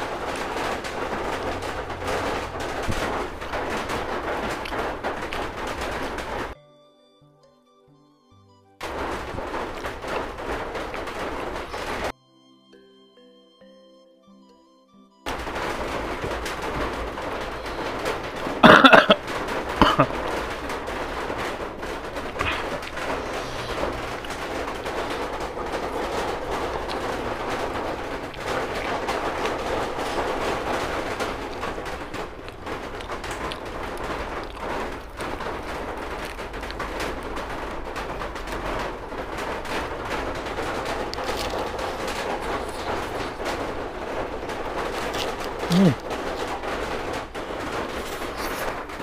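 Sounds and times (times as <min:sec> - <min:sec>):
heavy rain: 0:00.0 - 0:06.6, 0:08.8 - 0:12.1, 0:15.3 - 0:49.0
sharp loud knocks: 0:00.0 - 0:06.6, 0:08.8 - 0:12.1, 0:15.3 - 0:49.0.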